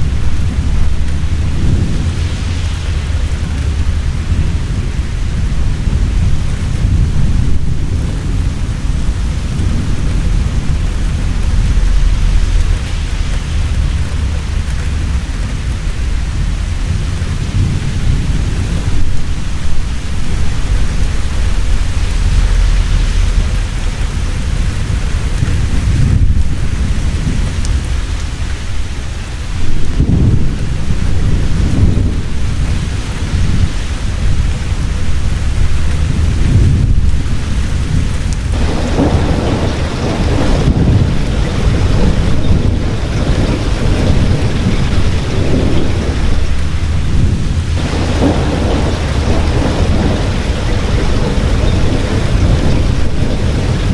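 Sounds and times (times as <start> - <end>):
heavy rain pouring: 0.0 - 53.9
thunder rumbling: 0.0 - 53.9.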